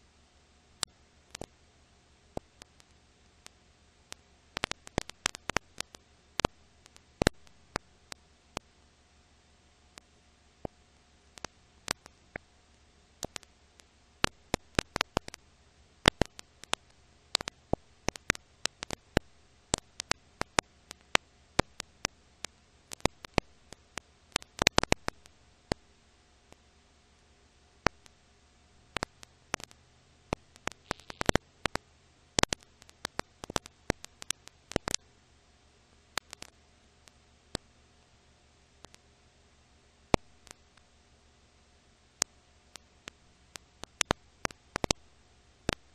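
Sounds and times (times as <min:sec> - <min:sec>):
faint hiss and hum: 0:00.0 - 0:45.9
film crackle clicks and pops: 0:00.7 - 0:01.6, 0:02.3 - 0:08.9, 0:09.9 - 0:26.7, 0:27.8 - 0:35.2, 0:36.1 - 0:39.1, 0:40.1 - 0:41.0, 0:42.1 - 0:45.9.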